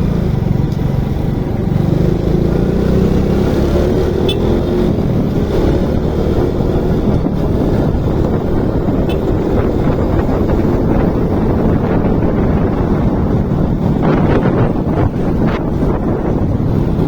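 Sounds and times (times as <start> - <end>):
motorcycle engine: 0.0 - 17.0
wind rumble on microphone: 0.0 - 17.0.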